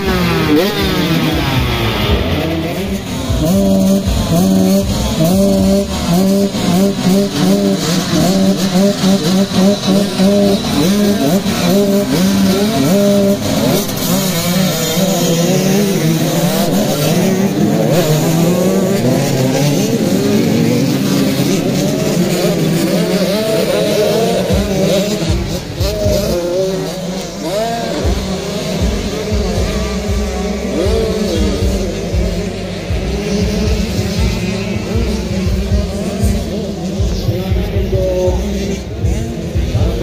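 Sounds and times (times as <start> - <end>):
motocross bikes revving: 0.0 - 40.0.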